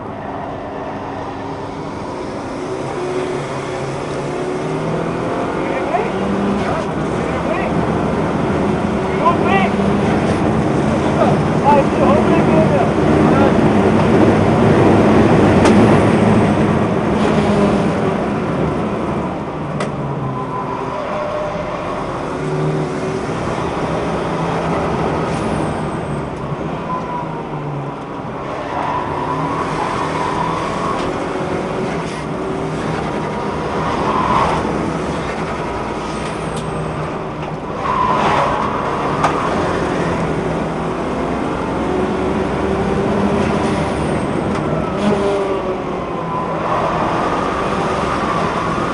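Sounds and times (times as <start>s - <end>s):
car engine revving: 0.0s - 48.9s
road and wind noise: 0.0s - 48.9s.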